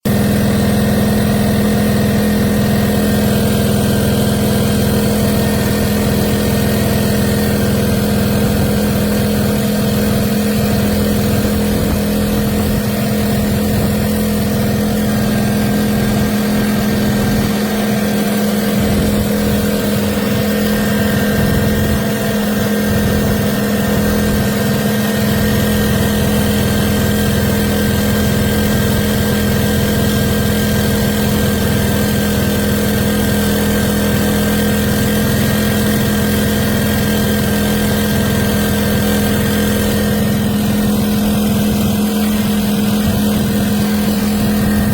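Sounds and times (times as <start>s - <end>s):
generator engine humming: 0.0s - 44.9s.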